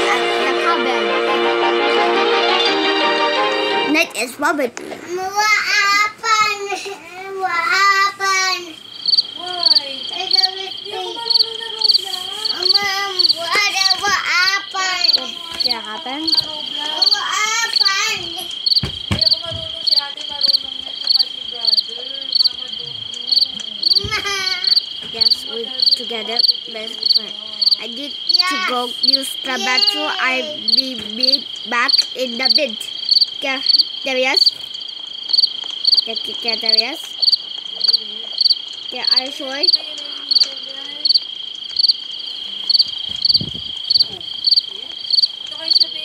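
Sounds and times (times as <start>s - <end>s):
crickets chirring: 0.0s - 46.0s
sharp cricket chirp: 3.6s - 46.0s.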